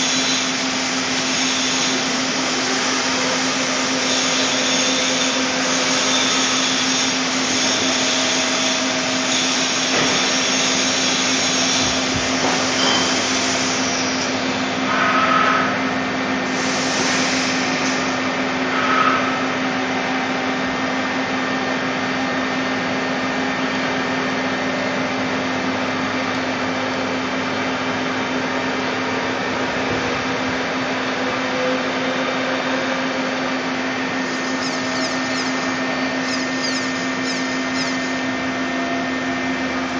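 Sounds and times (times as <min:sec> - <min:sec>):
lathe motor humming: 0:00.0 - 0:15.0, 0:15.8 - 0:39.9.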